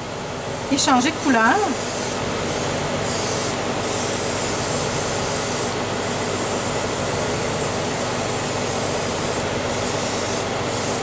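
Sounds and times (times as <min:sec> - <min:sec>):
airbrush compressor running: 0:00.0 - 0:11.0
airbrush hissing: 0:00.7 - 0:11.0.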